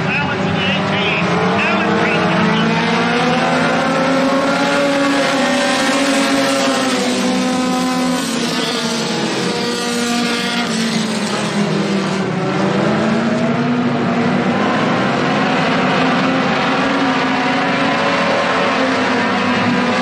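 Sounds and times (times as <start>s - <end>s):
stock cars racing past: 0.0s - 20.0s.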